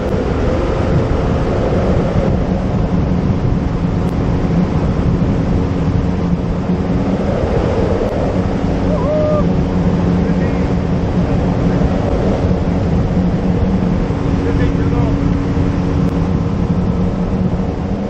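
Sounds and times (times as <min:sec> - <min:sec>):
outboard motor droning: 0:00.0 - 0:18.0
water rushing off hull: 0:00.0 - 0:18.0
wind buffeting microphone: 0:00.0 - 0:18.0.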